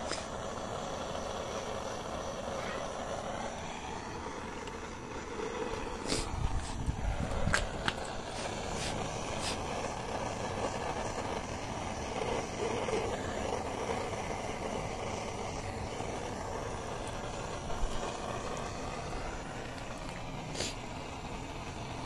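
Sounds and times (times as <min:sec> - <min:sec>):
gas torch hissing: 0:00.0 - 0:22.0.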